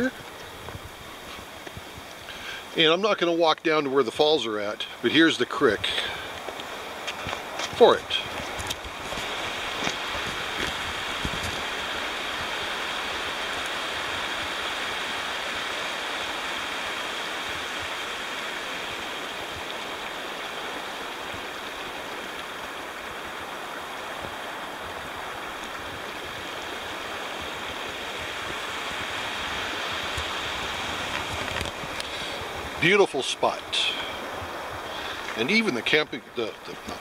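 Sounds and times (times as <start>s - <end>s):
creek water rushing over rocks: 0.0s - 37.0s.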